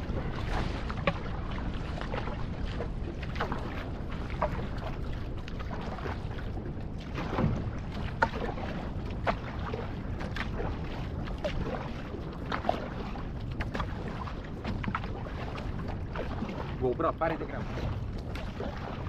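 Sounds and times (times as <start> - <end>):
paddle splashing water: 0.0 - 19.0
steady low rumble: 0.0 - 19.0.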